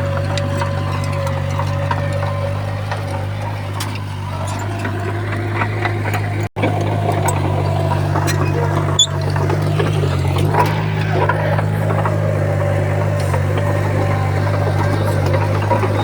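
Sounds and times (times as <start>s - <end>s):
bulldozer diesel engine running: 0.0s - 16.0s
clicks and clanks: 0.0s - 16.0s.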